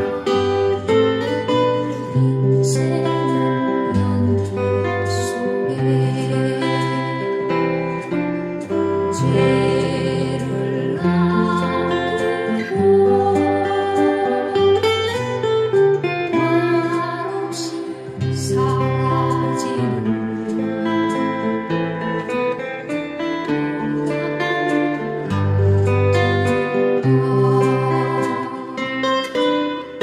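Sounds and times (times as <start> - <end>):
acoustic guitar melody: 0.0 - 30.0.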